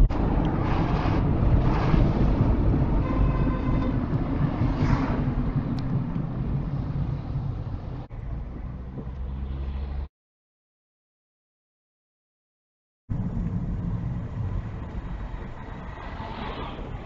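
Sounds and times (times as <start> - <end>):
car engine and tyre rumble: 0.0 - 10.1, 13.1 - 17.0
low car hum: 0.0 - 10.1, 13.1 - 17.0.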